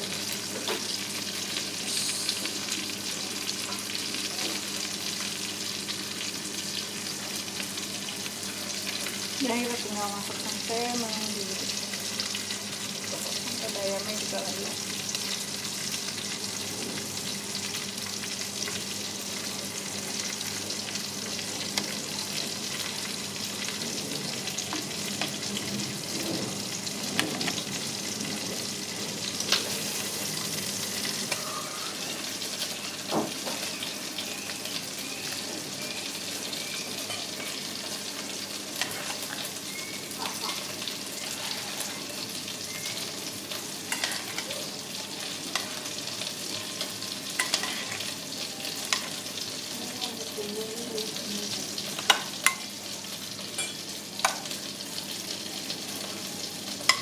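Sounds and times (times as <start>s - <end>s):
sauce sizzling and bubbling: 0.0s - 57.0s.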